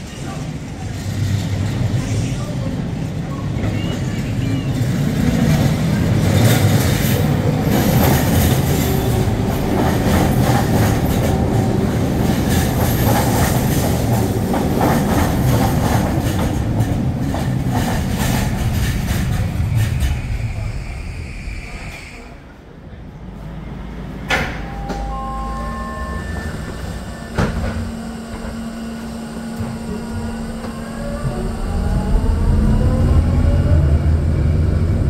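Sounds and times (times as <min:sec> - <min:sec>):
train wheels rumbling: 0:00.0 - 0:22.4, 0:25.8 - 0:35.0.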